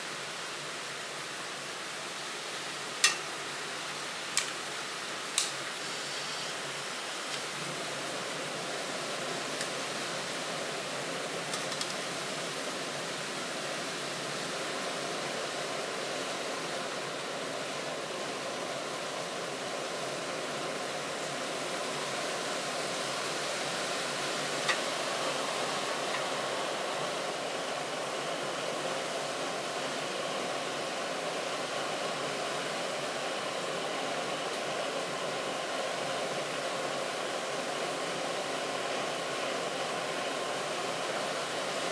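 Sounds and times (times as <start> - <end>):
camping stove burner hissing: 0.0 - 41.9.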